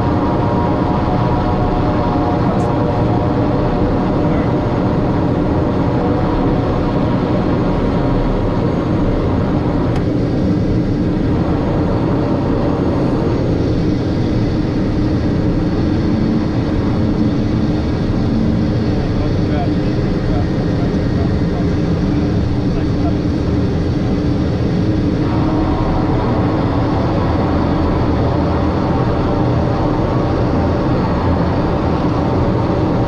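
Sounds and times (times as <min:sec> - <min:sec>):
engine whine: 0:00.0 - 0:33.0
turboprop engine drone: 0:00.0 - 0:33.0.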